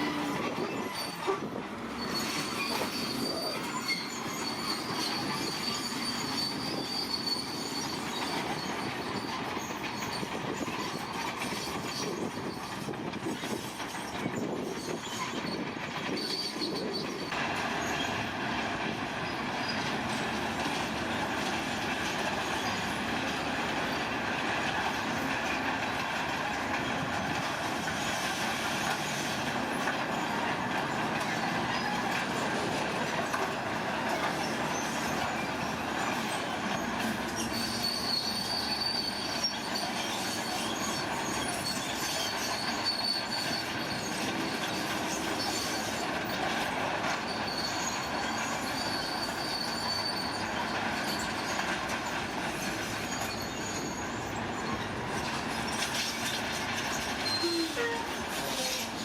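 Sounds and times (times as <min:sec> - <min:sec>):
high metallic squeal: 0:00.0 - 0:18.2, 0:19.2 - 0:26.0, 0:26.6 - 0:59.0.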